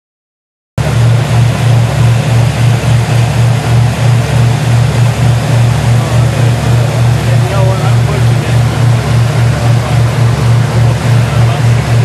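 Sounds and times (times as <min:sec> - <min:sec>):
boat engine humming: 0:00.8 - 0:12.0.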